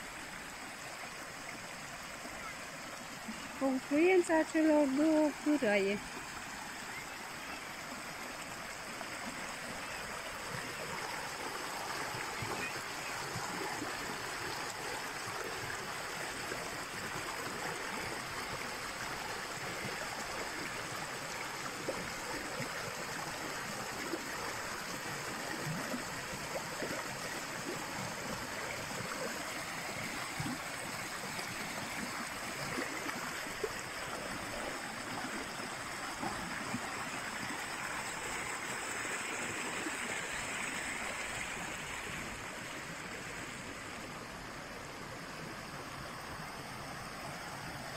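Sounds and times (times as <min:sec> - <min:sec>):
brook babbling over rocks: 0:00.0 - 0:47.9.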